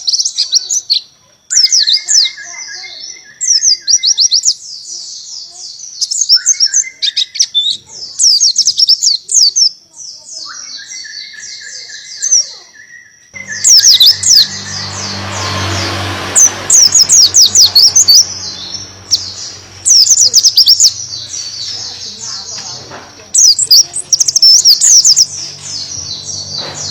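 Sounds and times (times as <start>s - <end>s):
bird trilling song: 0.0s - 26.9s.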